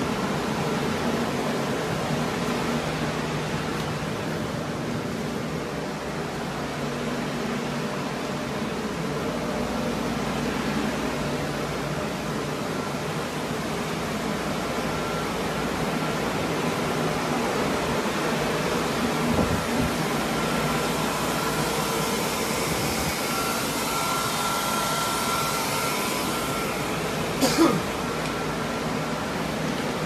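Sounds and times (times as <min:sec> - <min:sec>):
blowers rushing air with faint whine: 0:00.0 - 0:30.0.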